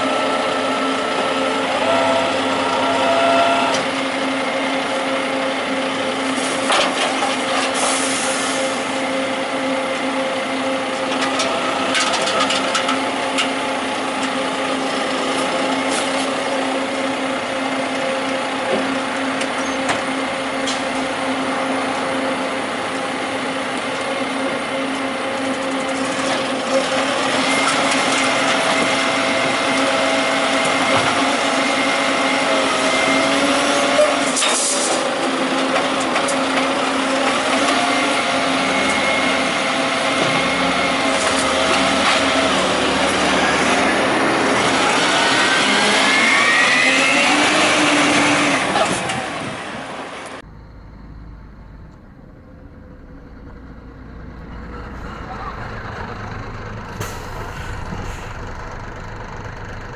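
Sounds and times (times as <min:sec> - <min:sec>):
garbage truck hydraulics whining: 0:00.0 - 0:59.9.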